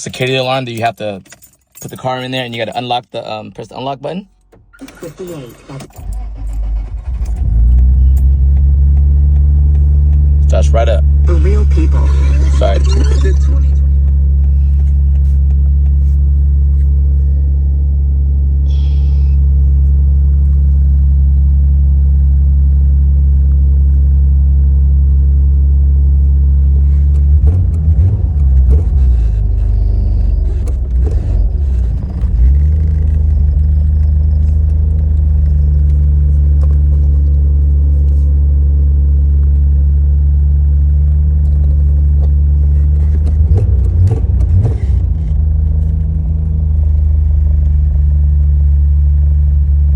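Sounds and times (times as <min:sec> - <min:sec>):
car engine idling: 0:03.4 - 0:49.9
uneven engine rumble and knocks: 0:06.0 - 0:49.9.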